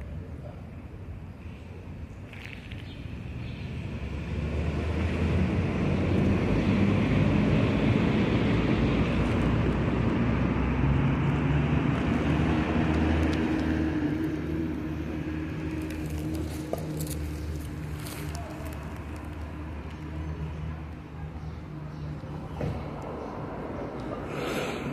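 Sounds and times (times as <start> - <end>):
passing vehicle engine rumble: 0.0 - 24.9.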